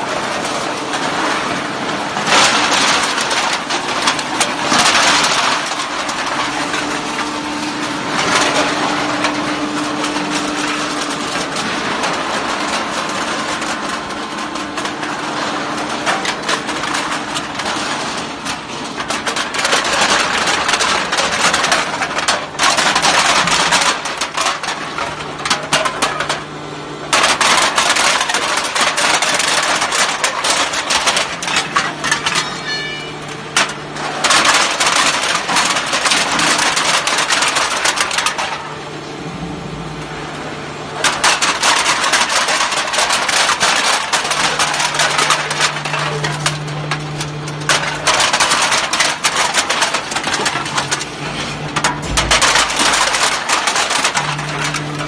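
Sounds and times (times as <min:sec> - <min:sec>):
machine hum: 0:00.0 - 0:55.0
cans clattering and crunching: 0:00.3 - 0:39.0, 0:40.8 - 0:55.0.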